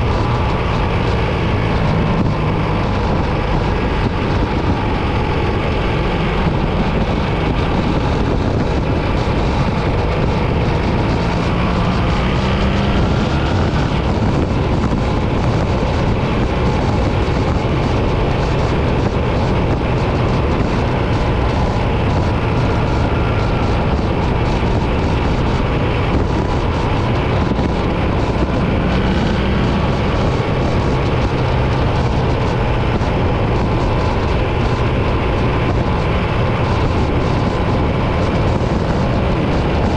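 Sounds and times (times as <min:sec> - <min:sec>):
motorcycle engine cruising: 0:00.0 - 0:39.9
wind rushing: 0:00.0 - 0:39.9.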